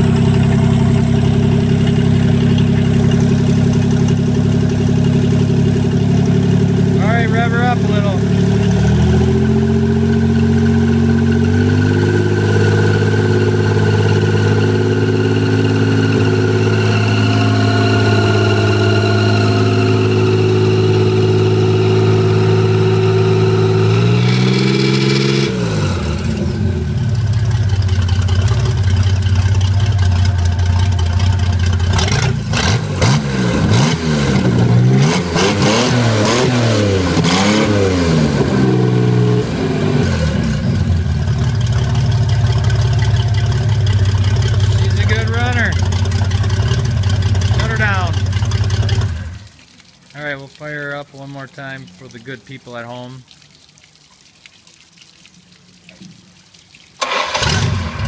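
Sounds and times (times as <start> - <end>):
boat engine revving: 0.0 - 49.6, 57.0 - 58.0.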